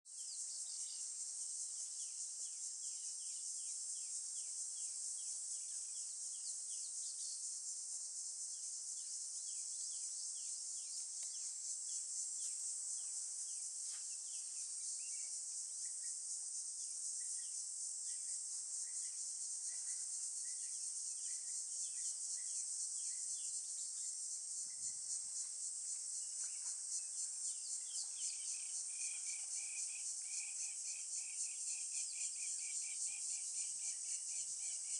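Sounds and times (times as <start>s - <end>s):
insects chorus pulsing: 0.2s - 34.9s.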